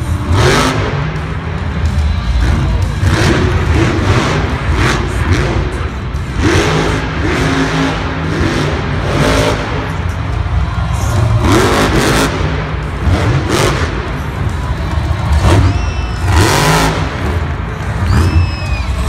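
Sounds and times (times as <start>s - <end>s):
truck engine revving hard: 0.0s - 10.2s, 11.0s - 19.0s.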